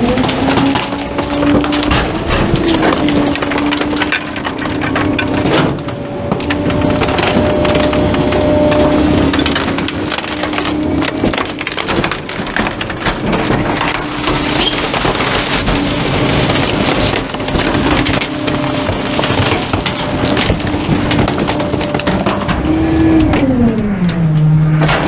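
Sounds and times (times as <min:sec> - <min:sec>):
garbage truck humming: 0:00.0 - 0:25.0
wood cracking and splintering: 0:00.0 - 0:25.0.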